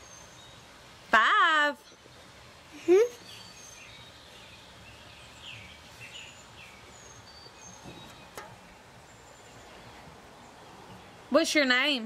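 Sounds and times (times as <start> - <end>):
faint birds chirping: 0.0 - 12.0
low background noise: 0.0 - 12.0.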